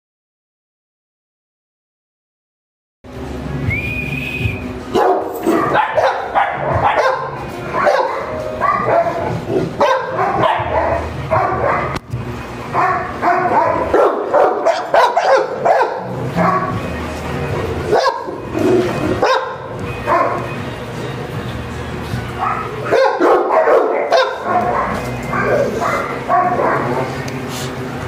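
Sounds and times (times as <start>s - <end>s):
dogs barking and yipping: 4.9s - 28.0s.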